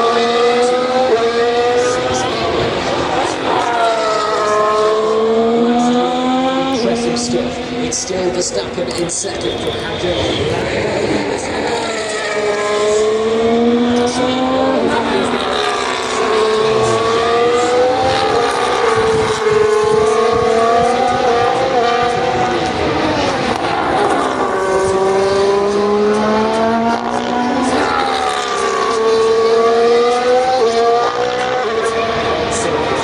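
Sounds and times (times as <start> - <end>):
racing cars passing at high revs: 0.0 - 33.0.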